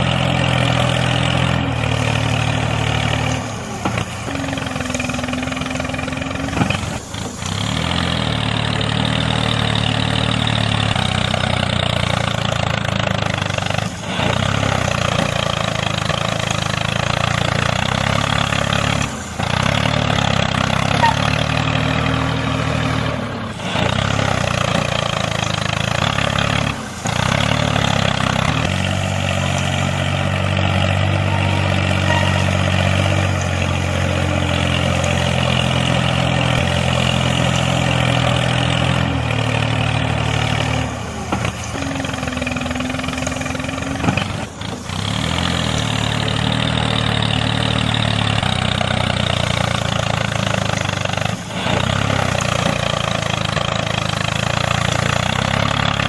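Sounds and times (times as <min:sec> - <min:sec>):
tractor engine drone: 0:00.0 - 0:56.0.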